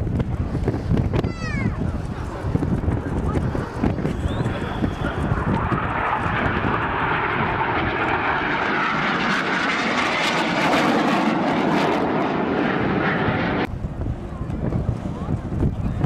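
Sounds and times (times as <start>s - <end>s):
aircraft flying past: 1.7s - 15.6s.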